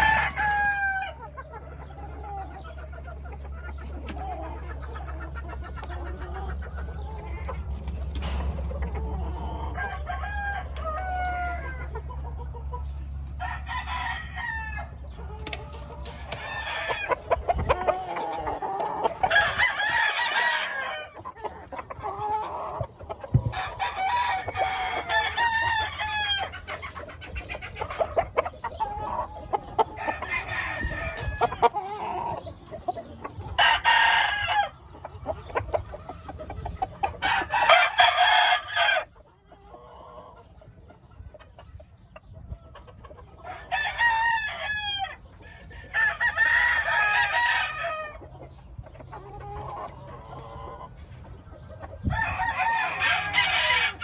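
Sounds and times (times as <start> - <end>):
roosters crowing and clucking: 0.0 - 54.0.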